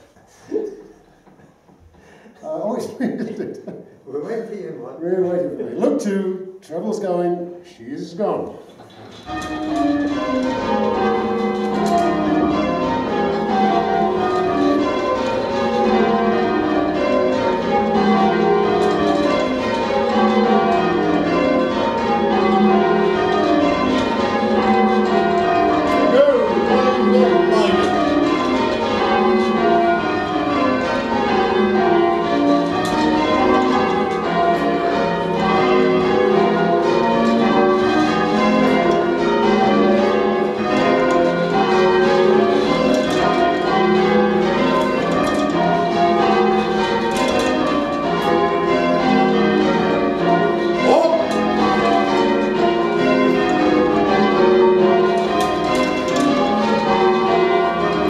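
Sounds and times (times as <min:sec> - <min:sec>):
church bells ringing in sequence: 0:09.2 - 0:58.0.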